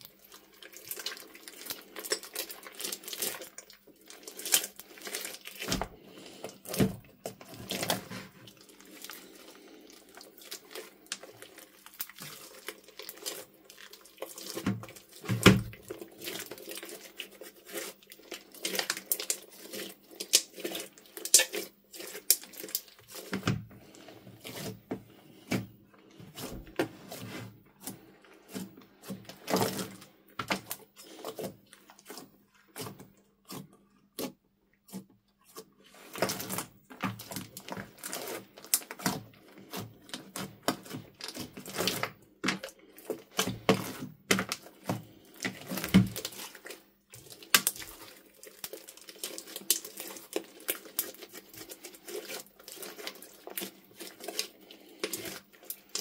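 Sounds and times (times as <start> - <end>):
hands squeezing sticky slime: 0.0 - 56.0.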